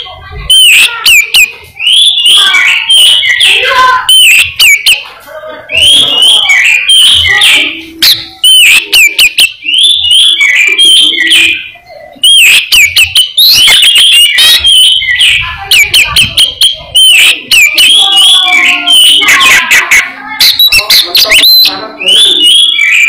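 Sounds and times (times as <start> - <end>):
bird singing whistles and chatter: 0.0 - 23.0.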